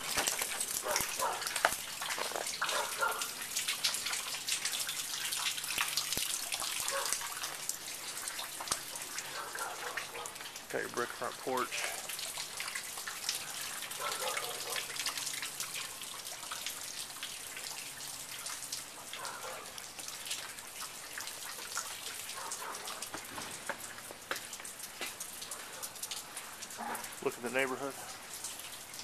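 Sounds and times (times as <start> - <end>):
rain falling: 0.0 - 29.0
water drips: 0.0 - 29.0.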